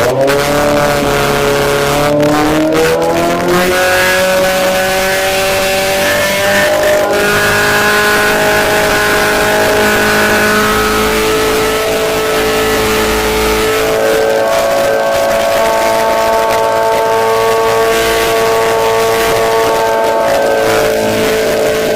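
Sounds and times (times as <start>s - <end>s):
engine running at high revs: 0.0s - 21.9s.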